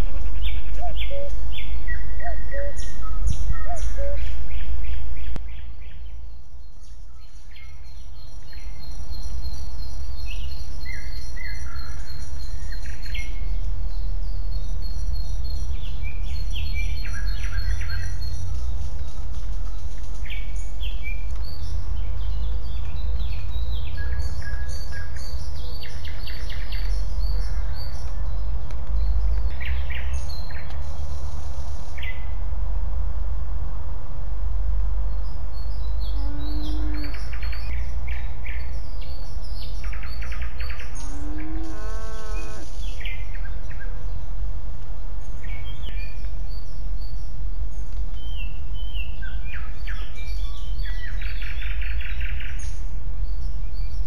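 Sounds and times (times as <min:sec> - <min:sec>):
songbirds chirping and trilling: 0:00.0 - 0:54.0
wind rumble on microphone: 0:00.0 - 0:54.0.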